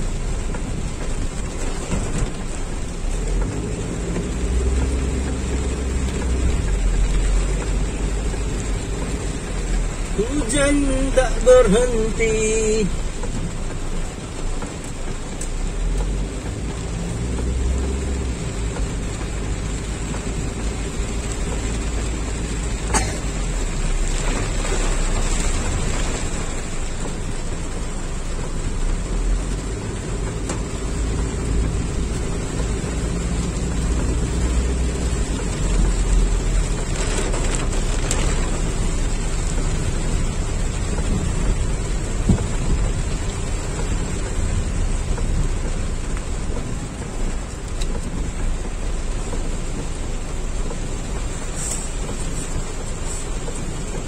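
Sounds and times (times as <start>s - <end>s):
rain on car roof: 0.0s - 54.0s.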